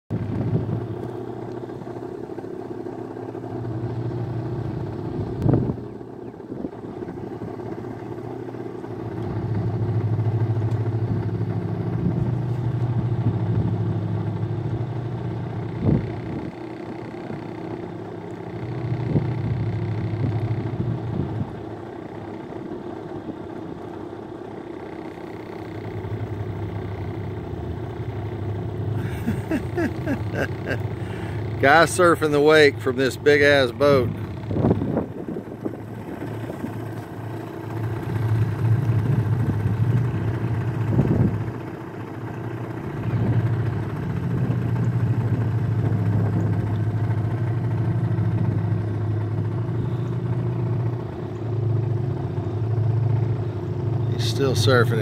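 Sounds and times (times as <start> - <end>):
ship engine drone: 0.1 - 55.0.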